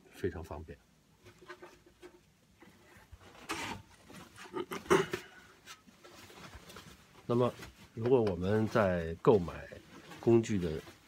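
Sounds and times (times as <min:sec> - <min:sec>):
rustling scrape: 0:01.2 - 0:11.0.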